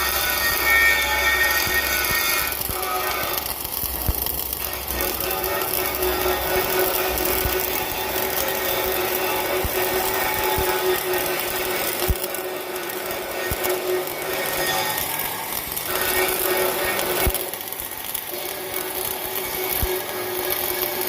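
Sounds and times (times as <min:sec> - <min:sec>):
welding arc crackling and hissing: 0:00.0 - 0:21.0.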